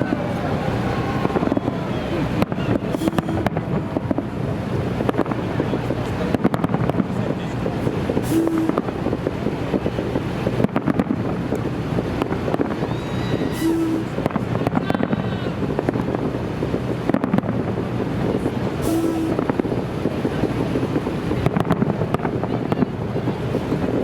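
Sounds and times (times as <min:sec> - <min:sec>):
firework bang: 0:00.0 - 0:23.0
fireworks crackling and popping: 0:00.0 - 0:24.0.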